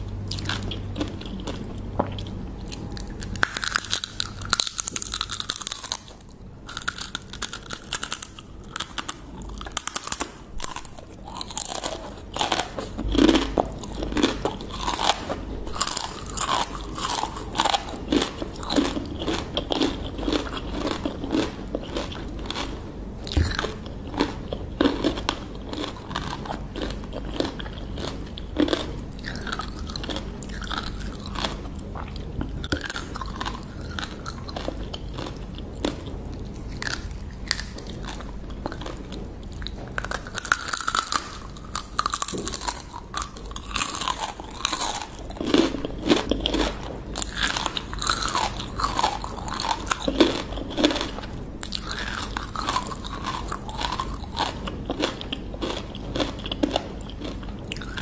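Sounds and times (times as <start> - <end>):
crunching and chewing crabs: 0.0 - 58.0.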